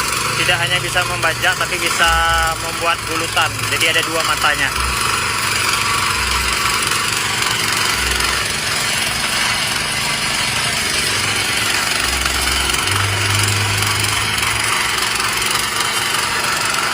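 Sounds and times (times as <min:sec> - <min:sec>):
power tiller engine running: 0:00.0 - 0:16.9.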